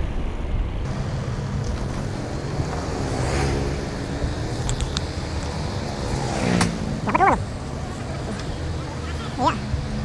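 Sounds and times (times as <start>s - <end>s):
mountain bike riding rumble: 0.0s - 10.0s
passing vehicle engine: 0.8s - 10.0s.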